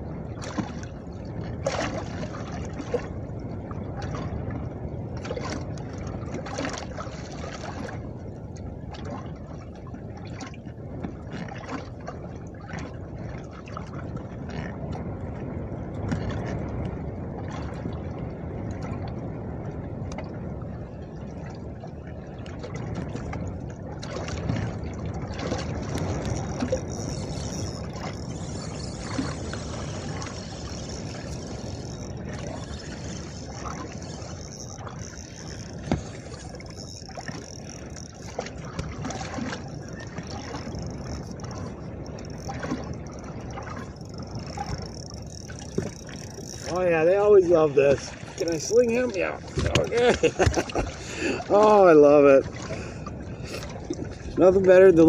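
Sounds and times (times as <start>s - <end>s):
water lapping against boat hull: 0.0s - 55.0s
wind buffeting microphone: 0.0s - 55.0s.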